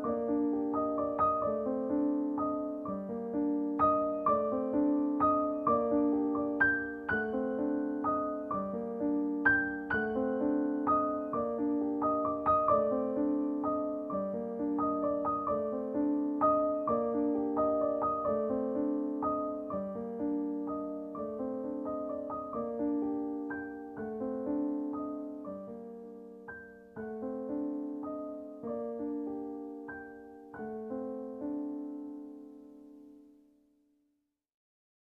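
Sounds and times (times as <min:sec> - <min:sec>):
soft piano music: 0:00.0 - 0:33.8.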